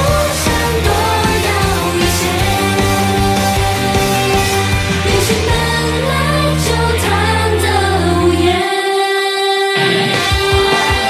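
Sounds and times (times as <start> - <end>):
pop backing track with steady beat: 0.0 - 8.6, 9.7 - 11.0
women singing into microphones: 0.0 - 10.4.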